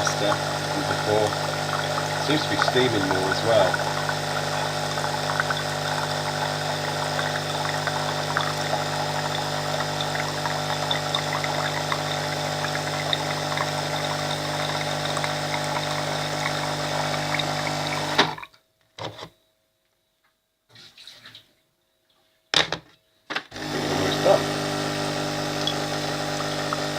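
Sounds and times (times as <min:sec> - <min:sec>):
coffee machine pump humming: 0:00.0 - 0:18.5, 0:23.6 - 0:26.9
hot water pouring into a mug: 0:00.0 - 0:18.5, 0:23.6 - 0:26.9.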